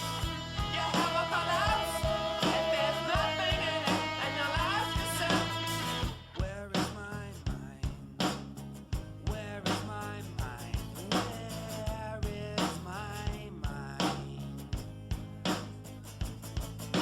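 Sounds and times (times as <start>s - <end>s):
rock music with drum beat: 0.0s - 17.0s.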